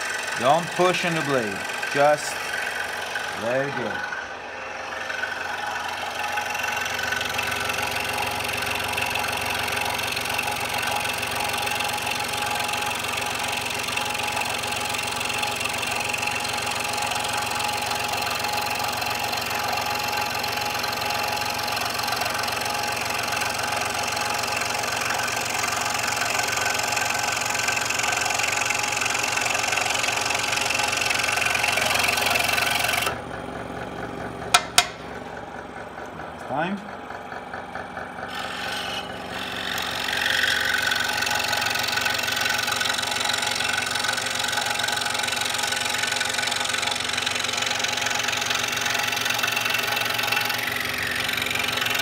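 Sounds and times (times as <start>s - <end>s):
scroll saw cutting wood: 0.0s - 33.3s, 38.2s - 52.0s.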